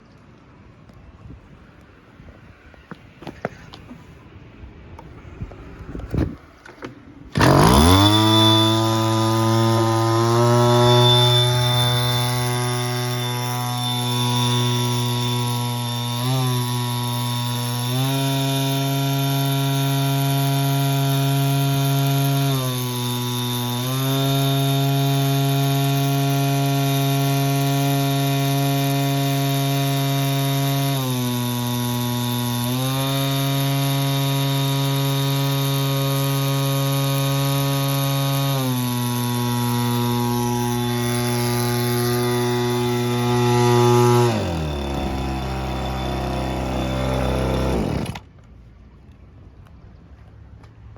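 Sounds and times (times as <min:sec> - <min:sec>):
small engine revving: 0:07.3 - 0:48.3.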